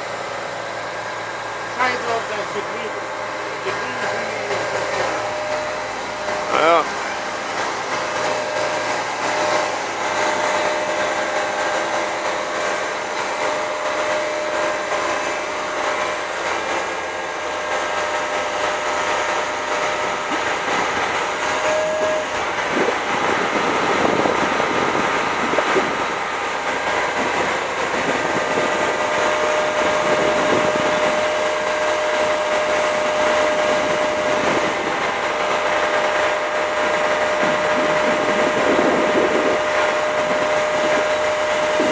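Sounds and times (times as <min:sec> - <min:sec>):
concrete pump drone: 0:00.0 - 0:41.9
high mechanical whine: 0:00.0 - 0:41.9.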